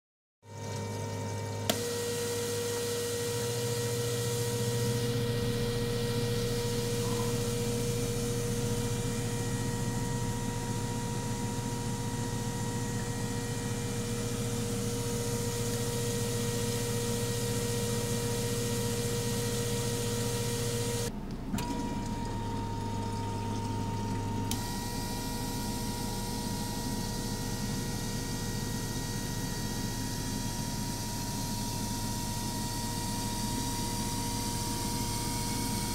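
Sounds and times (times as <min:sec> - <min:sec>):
pump and injectors buzzing: 0:00.5 - 0:35.9.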